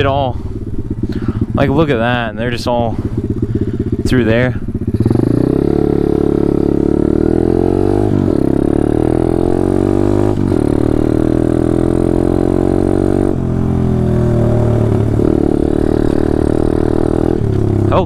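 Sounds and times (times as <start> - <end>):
motorbike engine shifting gears: 0.0 - 18.0.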